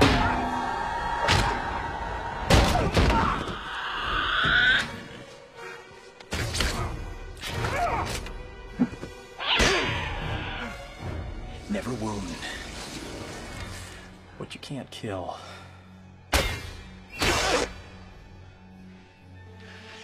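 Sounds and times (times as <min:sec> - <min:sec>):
action film music: 0:00.0 - 0:20.0.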